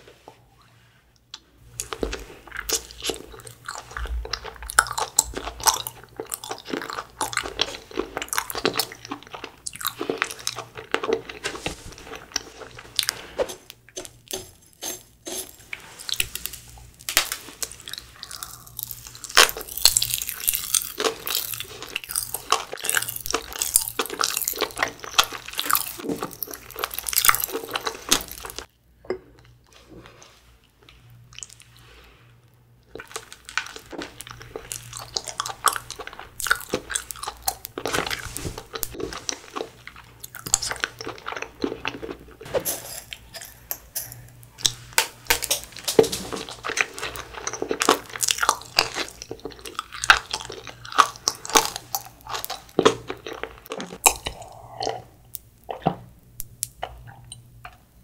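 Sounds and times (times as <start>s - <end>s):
chewing and biting rice cakes: 1.7s - 28.7s, 32.9s - 42.5s, 44.6s - 57.8s.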